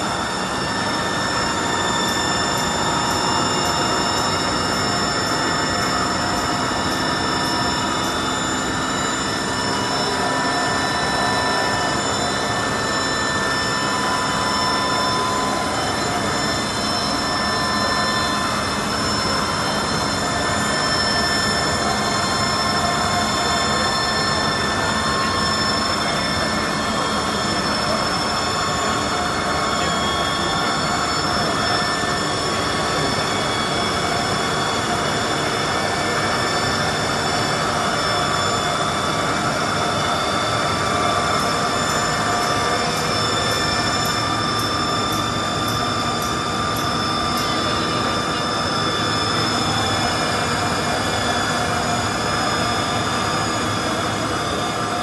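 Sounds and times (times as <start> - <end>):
high-pitched whining tones: 0.0 - 55.0
machine whirring: 0.0 - 55.0.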